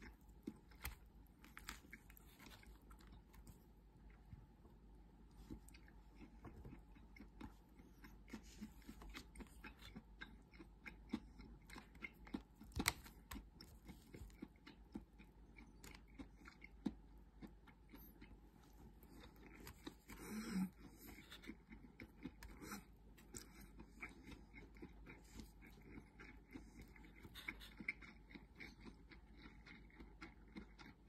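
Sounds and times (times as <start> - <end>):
faint chewing: 0.0 - 31.0.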